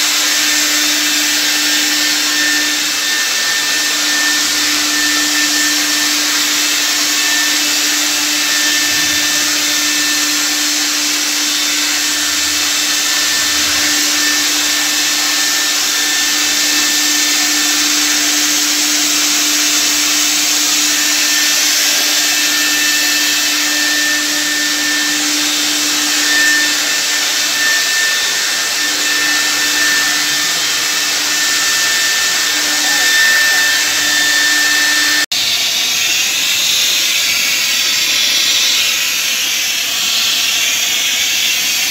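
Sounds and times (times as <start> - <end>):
fogger motor hum and whine: 0.0 - 35.3
rushing hiss of spray: 0.0 - 41.9.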